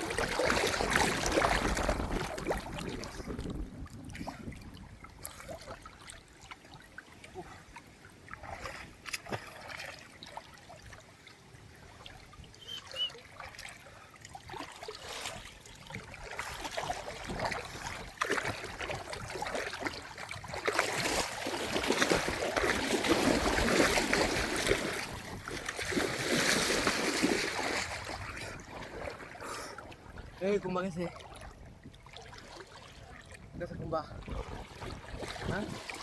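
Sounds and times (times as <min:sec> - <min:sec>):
water splashing: 0:00.0 - 0:33.5, 0:34.1 - 0:36.0.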